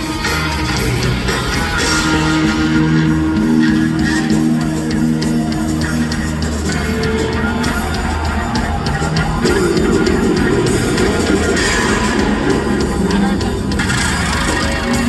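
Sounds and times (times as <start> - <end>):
bass line: 0.0 - 15.0
drum and cymbal hits: 0.0 - 15.0
electric guitar: 0.0 - 15.0.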